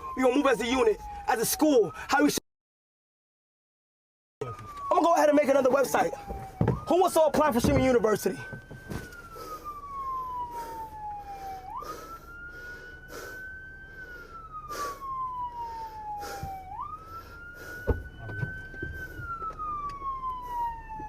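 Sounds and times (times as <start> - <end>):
police siren wailing: 0.0 - 2.4, 4.4 - 21.0.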